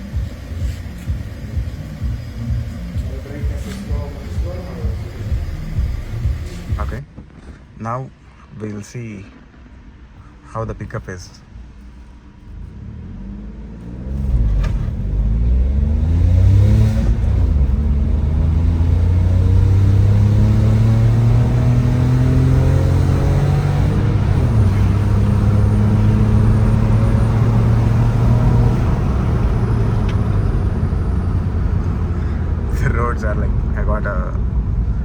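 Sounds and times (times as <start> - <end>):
car engine accelerating hard: 0.0 - 7.0, 12.4 - 35.0
gear changes: 0.0 - 7.6, 11.7 - 35.0.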